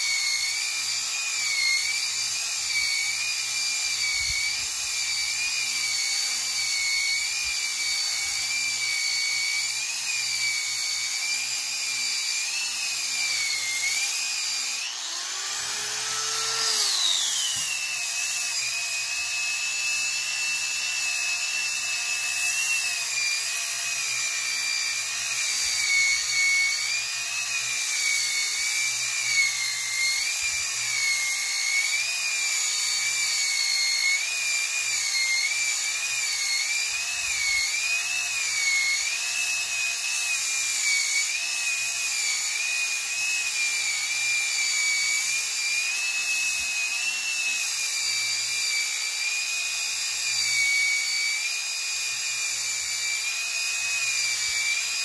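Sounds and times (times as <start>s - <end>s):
rotary sander whining: 0.0s - 55.0s.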